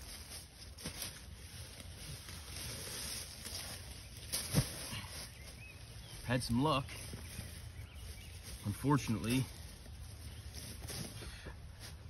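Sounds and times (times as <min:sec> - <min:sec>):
footsteps through dry leaves: 0:00.0 - 0:12.0.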